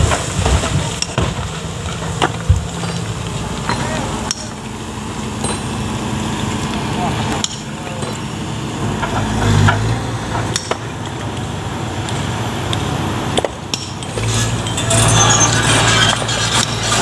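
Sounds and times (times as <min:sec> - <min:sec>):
excavator engine running: 0:00.0 - 0:17.0
tumbling rock and gravel: 0:00.0 - 0:17.0.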